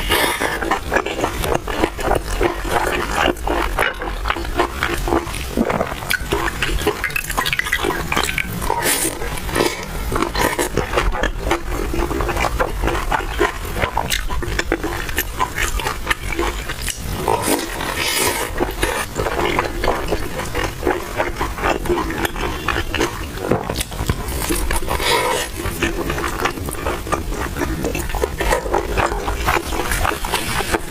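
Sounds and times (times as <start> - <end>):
crunchy chewing: 0.0 - 30.9.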